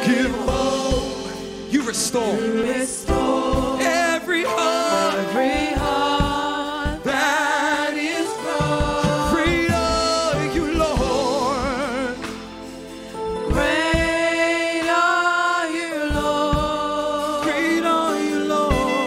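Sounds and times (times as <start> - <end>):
band backing: 0.0 - 19.0
group singing in harmony: 0.0 - 19.0.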